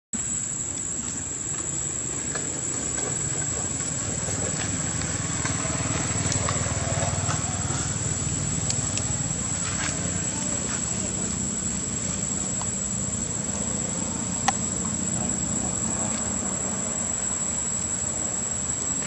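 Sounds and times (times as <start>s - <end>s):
thin high whine: 0.2s - 19.0s.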